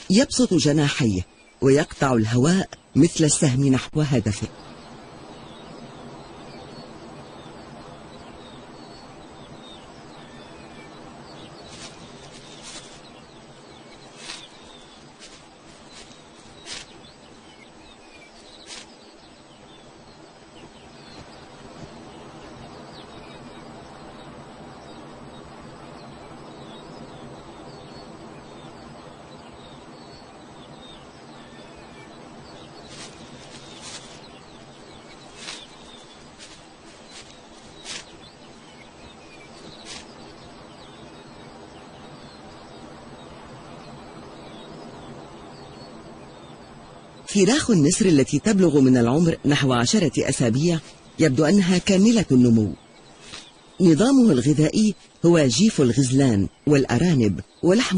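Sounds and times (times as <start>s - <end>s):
high rasping bird calls: 0.0s - 57.9s
small birds chirping: 0.0s - 57.9s
steady outdoor hiss: 0.0s - 57.9s.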